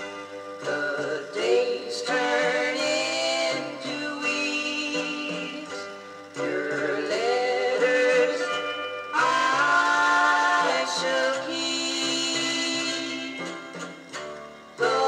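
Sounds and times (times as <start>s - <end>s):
record playing on turntable: 0.0s - 15.0s.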